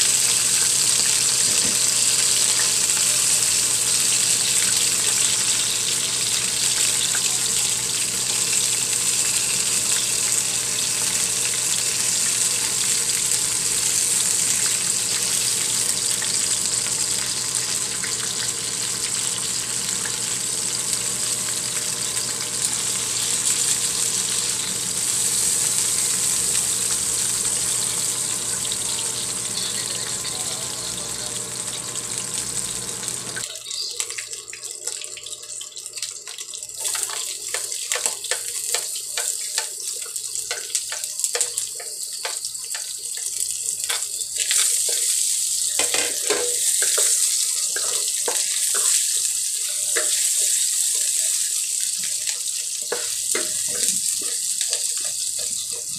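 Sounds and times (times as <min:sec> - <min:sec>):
hot oil sizzling in a wok: 0:00.0 - 0:55.9.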